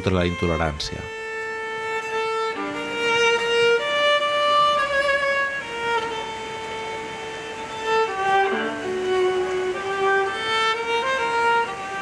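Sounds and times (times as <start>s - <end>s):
solo violin slow melody: 0.0s - 12.0s.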